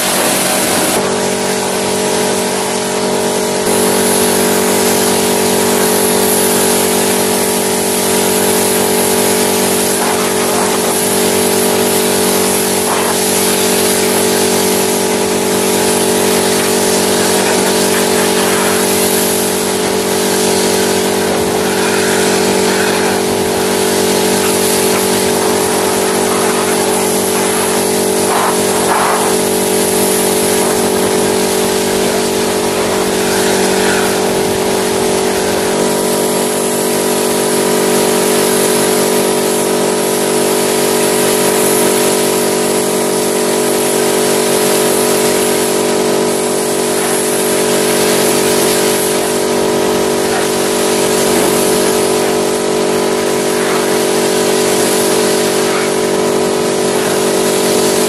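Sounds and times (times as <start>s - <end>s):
water spray hissing: 0.0s - 2.7s, 3.7s - 58.0s
pressure washer motor hum: 0.0s - 58.0s.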